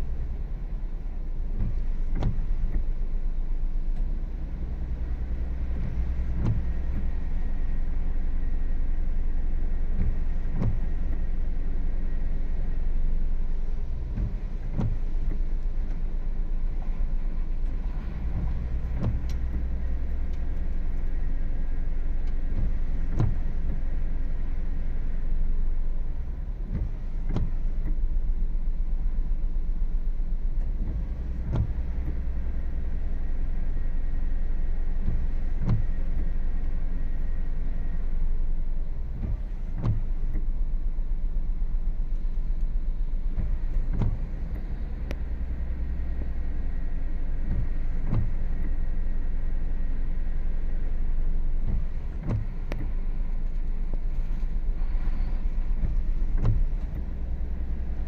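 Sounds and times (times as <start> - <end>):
car low rumble: 0.0 - 58.0.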